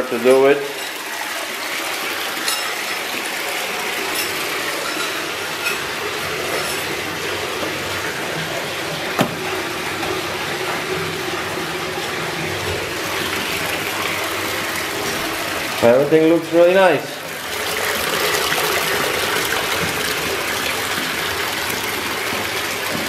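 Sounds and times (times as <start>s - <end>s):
water pouring into bathtub: 0.0s - 23.0s.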